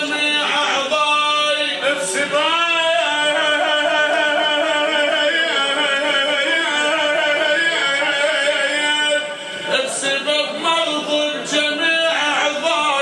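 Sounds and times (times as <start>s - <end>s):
man singing a drawn-out vowel: 0.0s - 13.0s.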